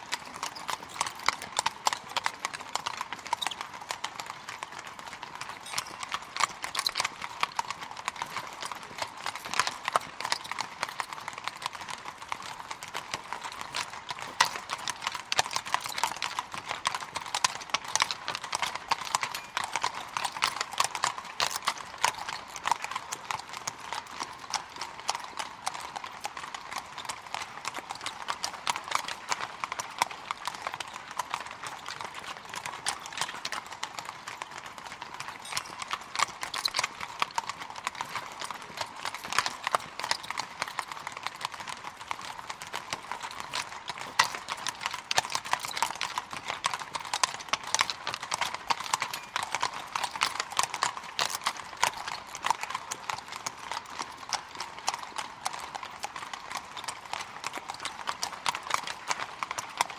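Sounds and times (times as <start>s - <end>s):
hooves clip-clopping on cobblestones: 0.0s - 59.9s.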